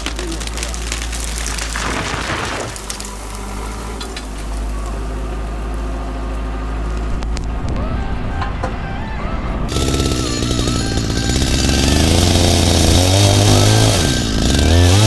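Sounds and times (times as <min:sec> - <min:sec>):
chainsaw engine running: 0:00.0 - 0:08.1, 0:09.7 - 0:15.0
cracking noise: 0:00.0 - 0:14.6.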